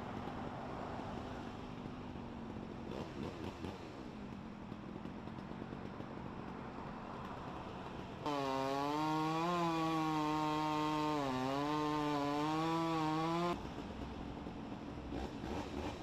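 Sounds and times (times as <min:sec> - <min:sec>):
chainsaw engine at high speed: 0:02.5 - 0:16.0.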